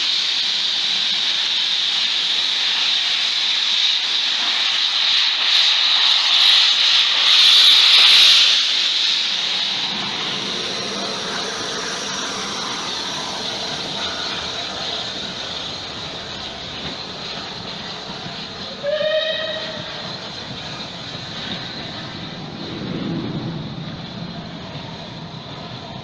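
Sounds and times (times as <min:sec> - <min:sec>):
steam hissing: 0:00.0 - 0:26.0
steam locomotive rumble: 0:00.0 - 0:26.0.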